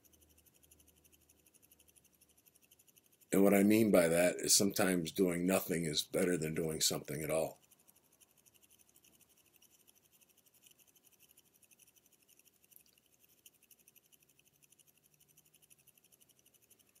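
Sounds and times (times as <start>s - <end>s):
fast high-pitched ticking: 0.0s - 17.0s.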